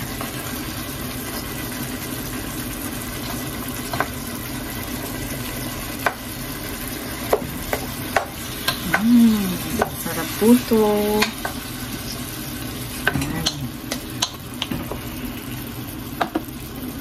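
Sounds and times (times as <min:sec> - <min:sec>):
chicken sizzling in pot: 0:00.0 - 0:17.0.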